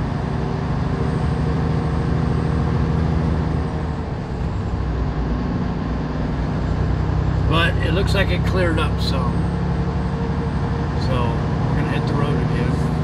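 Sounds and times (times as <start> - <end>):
diesel truck engine humming: 0.0 - 13.0.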